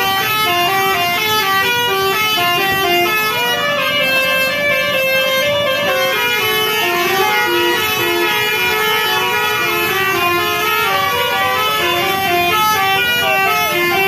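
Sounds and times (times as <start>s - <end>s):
bus air horns playing melody: 0.0s - 14.0s.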